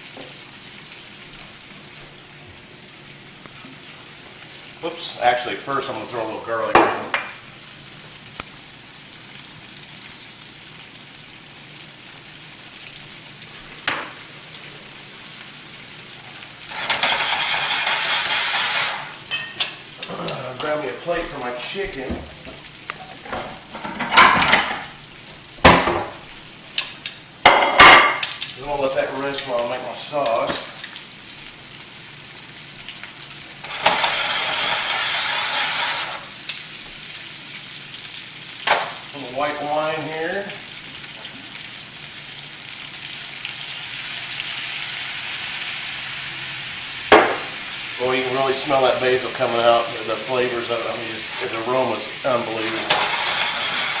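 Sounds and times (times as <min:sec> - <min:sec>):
chicken sizzling in a frying pan: 0:00.0 - 0:54.0.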